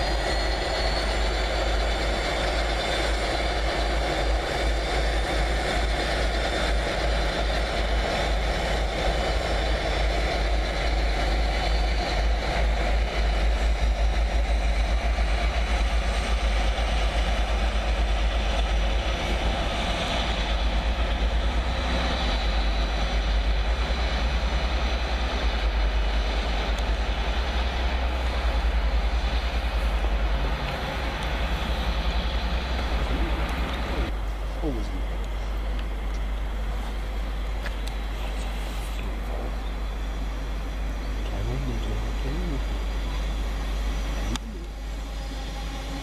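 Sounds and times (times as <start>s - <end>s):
diesel locomotive engines rumbling: 0.0s - 46.0s.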